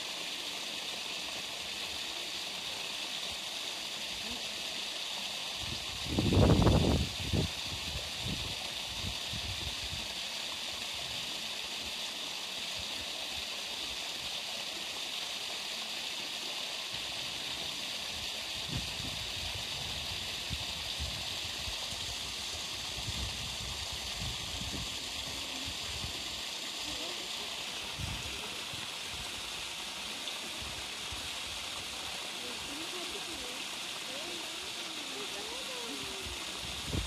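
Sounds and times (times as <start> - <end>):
steady rushing hiss: 0.0 - 37.0.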